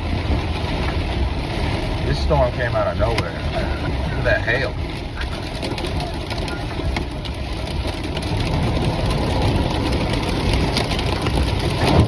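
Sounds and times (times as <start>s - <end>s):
heavy rain on a van: 0.0s - 12.0s
van driving on wet road: 0.0s - 12.0s
hailstones ticking: 1.8s - 12.0s.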